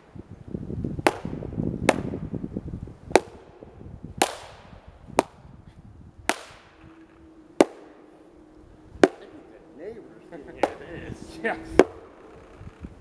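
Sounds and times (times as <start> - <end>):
low rustling: 0.0 - 13.0.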